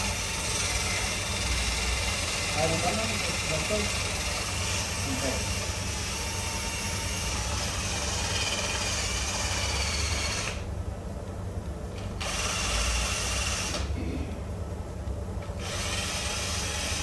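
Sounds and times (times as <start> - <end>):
power tool running: 0.0 - 10.7, 12.0 - 14.1, 15.6 - 17.0.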